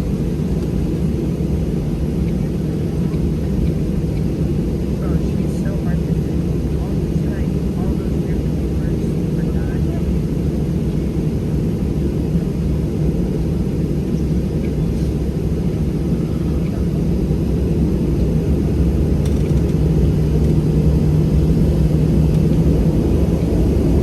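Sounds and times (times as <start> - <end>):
jet engine cabin rumble: 0.0 - 24.0.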